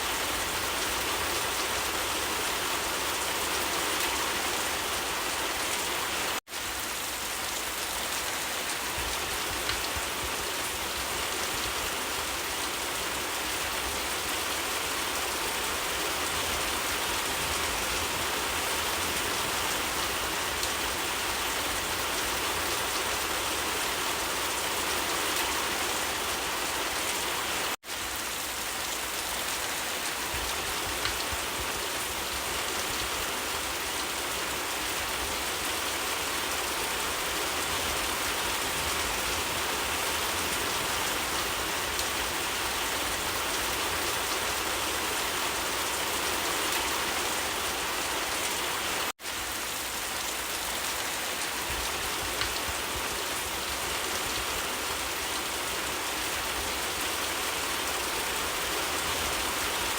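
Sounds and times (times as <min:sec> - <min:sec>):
dense rainfall: 0:00.0 - 0:59.9.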